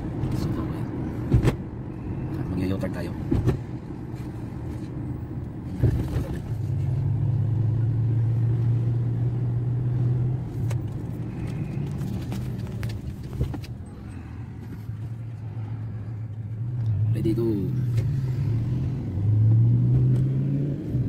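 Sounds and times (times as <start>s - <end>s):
car engine drone in cabin: 0.0s - 21.0s
road noise: 0.0s - 21.0s.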